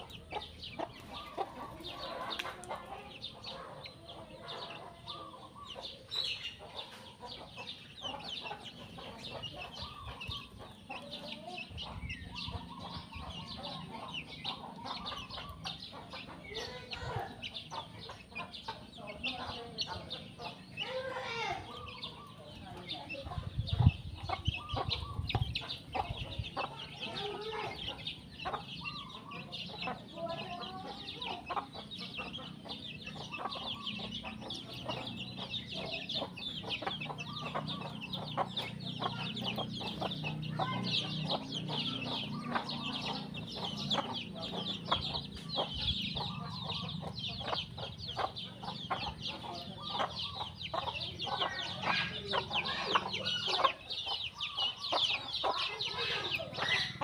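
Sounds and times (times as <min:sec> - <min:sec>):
chickens clucking: 0:00.0 - 0:57.0
sparrows chirping: 0:00.0 - 0:57.0.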